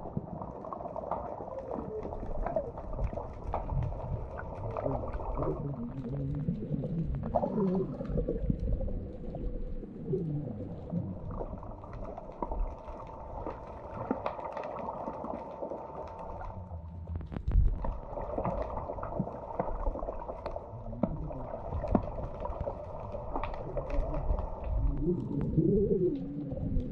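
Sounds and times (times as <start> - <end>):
low rumble of water underwater: 0.0 - 26.9.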